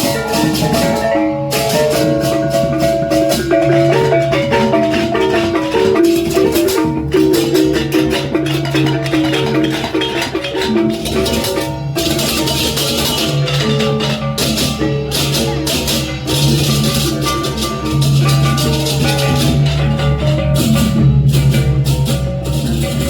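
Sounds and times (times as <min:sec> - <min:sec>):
gamelan music: 0:00.0 - 0:23.0
rattling percussion: 0:00.0 - 0:23.0
tuned metal percussion melody: 0:00.0 - 0:23.0.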